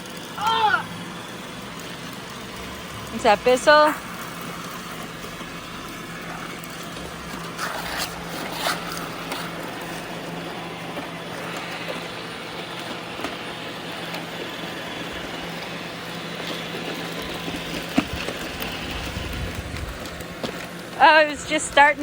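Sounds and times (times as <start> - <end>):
robot vacuum cleaners humming: 0.0 - 22.0.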